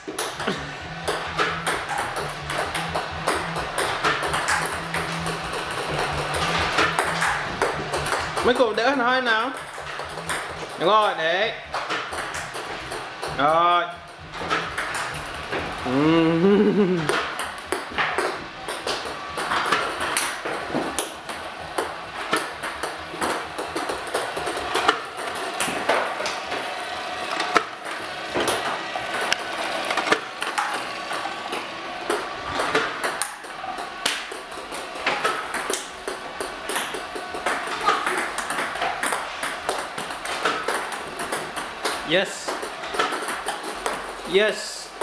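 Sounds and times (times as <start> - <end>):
ping-pong balls bouncing: 0.0 - 45.0.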